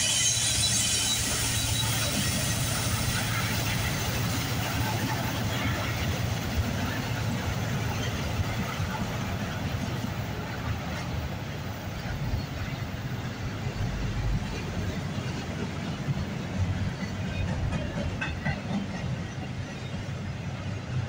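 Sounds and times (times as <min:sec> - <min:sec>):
freight cars rolling on rails: 0:00.0 - 0:21.0.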